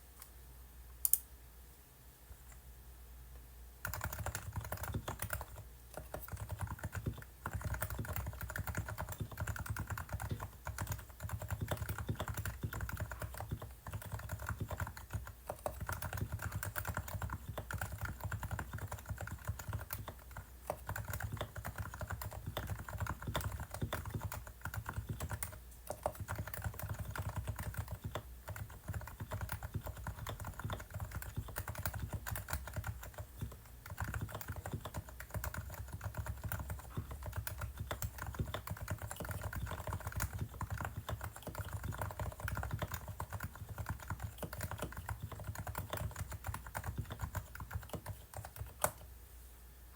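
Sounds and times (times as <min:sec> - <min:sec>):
keyboard typing: 0:03.8 - 0:49.1.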